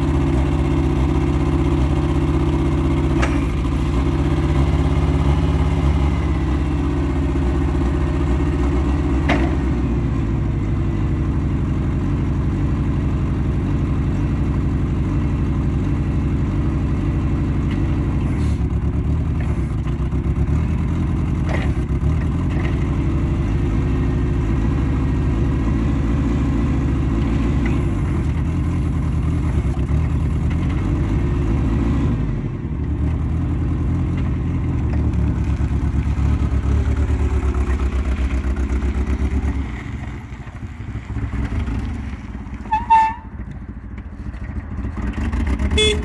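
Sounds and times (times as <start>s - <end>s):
forklift engine running: 0.0s - 46.0s.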